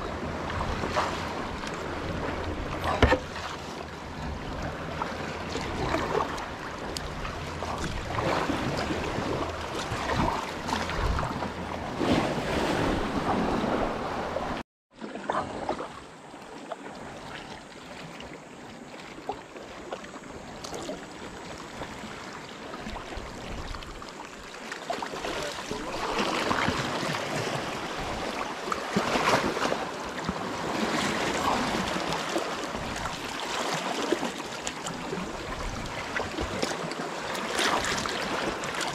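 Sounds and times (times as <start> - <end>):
paddle splashing in water: 0.0 - 38.9
water rushing along hull: 0.0 - 38.9.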